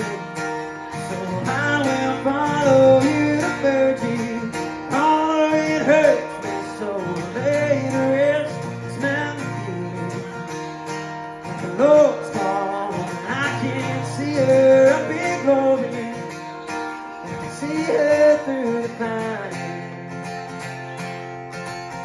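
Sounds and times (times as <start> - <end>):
man singing country song: 0.0 - 22.0
strummed acoustic guitar: 0.0 - 22.0.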